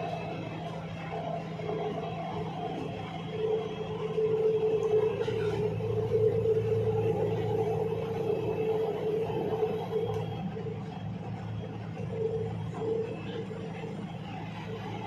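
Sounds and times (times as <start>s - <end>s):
low train rumble: 0.0s - 15.0s
train motor whine: 0.0s - 15.0s.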